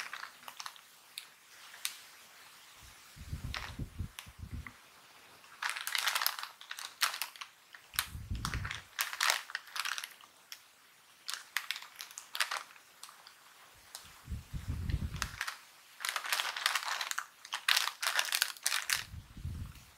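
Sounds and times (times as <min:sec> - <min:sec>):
plastic snack bag crinkling: 0:00.0 - 0:02.6, 0:03.4 - 0:04.6, 0:05.3 - 0:19.9.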